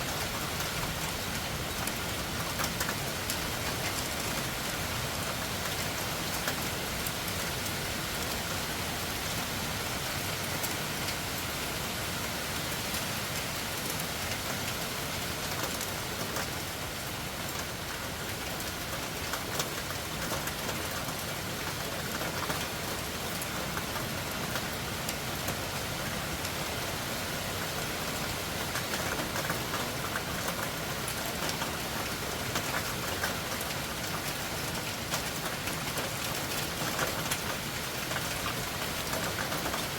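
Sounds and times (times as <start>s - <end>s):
loud rain falling: 0.0s - 39.9s.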